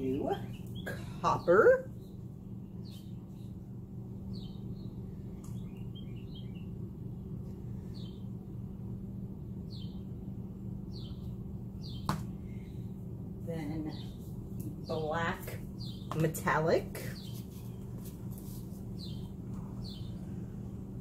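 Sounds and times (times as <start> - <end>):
low hum: 0.0 - 21.0
songbirds chirping: 0.0 - 21.0.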